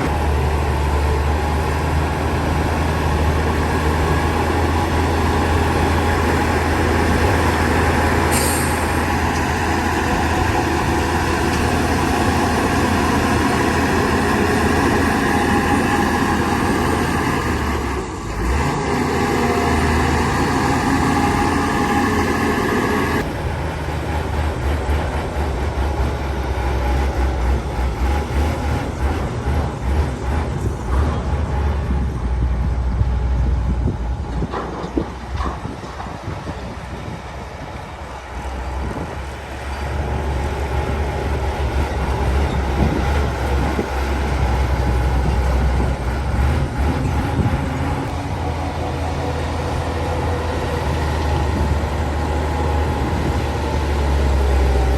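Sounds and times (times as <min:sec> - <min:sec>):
heavy diesel engines rumbling: 0:00.0 - 0:54.9.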